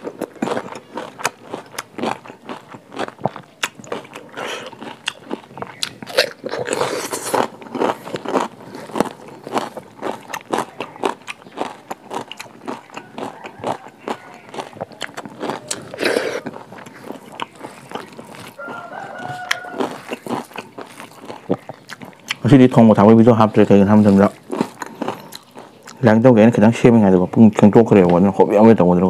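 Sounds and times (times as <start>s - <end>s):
person chewing crunchy food: 0.0s - 28.3s.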